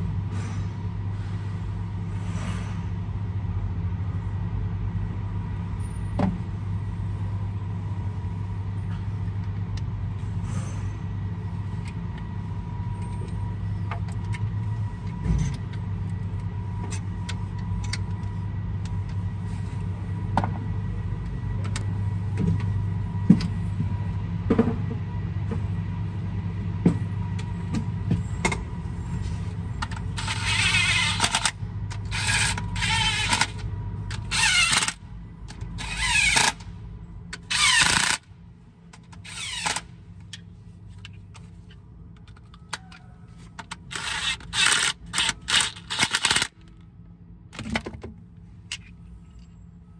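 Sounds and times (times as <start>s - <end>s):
low hum with metal clicks: 0.0s - 49.9s.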